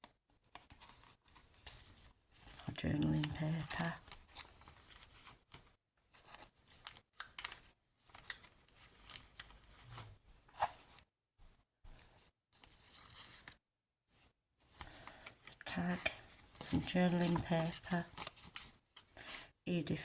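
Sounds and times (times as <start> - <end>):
paper pages rustling: 0.5 - 11.0, 11.9 - 13.6, 14.7 - 19.4.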